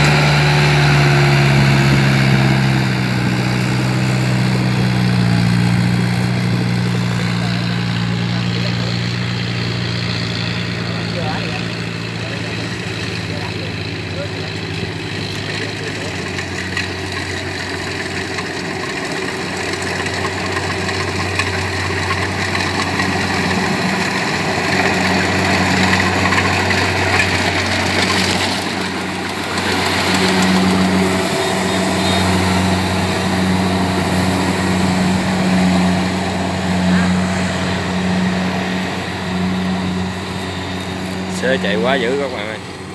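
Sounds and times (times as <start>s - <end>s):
diesel engine hum: 0.0s - 42.9s
threshing machinery rattle: 0.0s - 42.9s.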